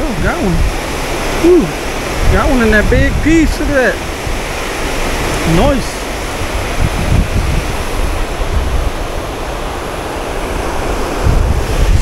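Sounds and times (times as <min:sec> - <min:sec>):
water rushing over dam spillway: 0:00.0 - 0:12.0
wind buffeting microphone: 0:00.0 - 0:12.0.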